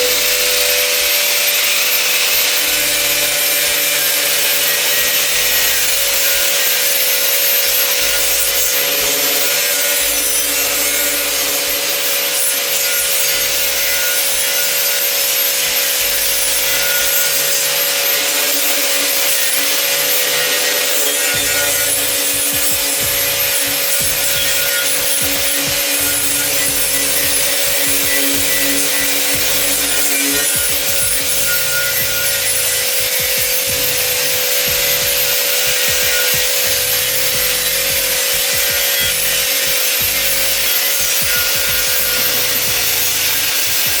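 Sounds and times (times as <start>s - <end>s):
rust scouring off metal: 0.0s - 44.0s
sanding tool motor hum: 0.0s - 44.0s.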